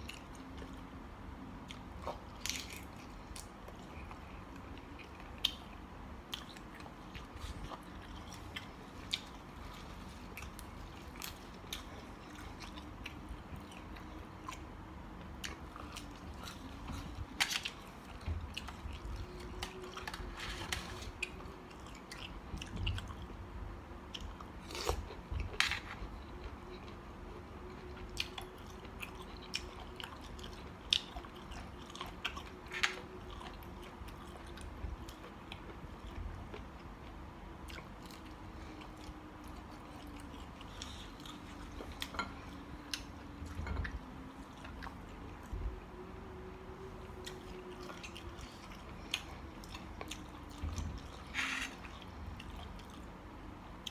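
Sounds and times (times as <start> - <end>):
person chewing food: 0.0 - 23.4, 24.0 - 53.9.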